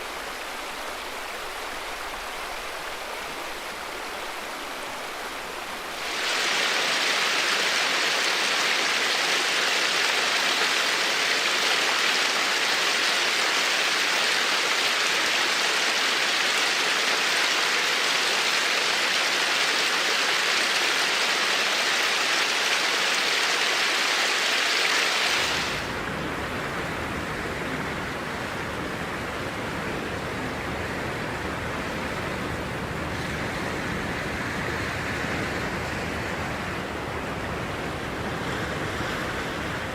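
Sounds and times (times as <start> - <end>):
rushing flowing water: 0.0 - 39.9.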